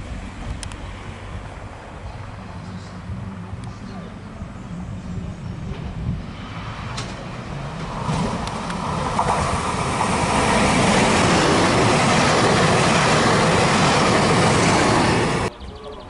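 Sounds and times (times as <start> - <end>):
train wheels rumbling on rails: 1.3 - 15.5.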